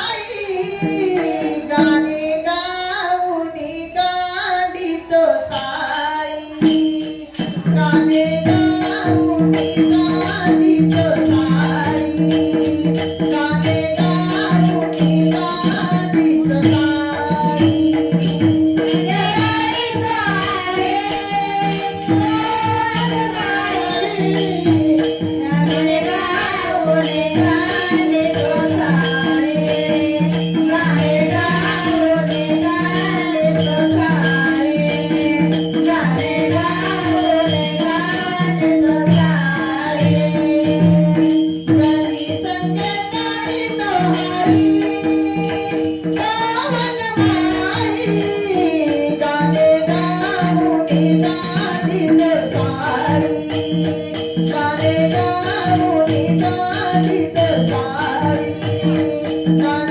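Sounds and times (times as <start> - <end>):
jingling hand percussion: 0.0 - 59.9
person singing devotional song: 0.0 - 59.9.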